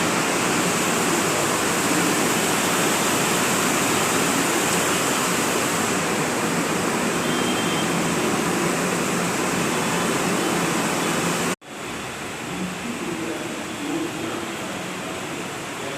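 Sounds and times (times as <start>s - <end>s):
heavy rain pouring: 0.0s - 15.9s
steady background noise: 0.0s - 15.9s.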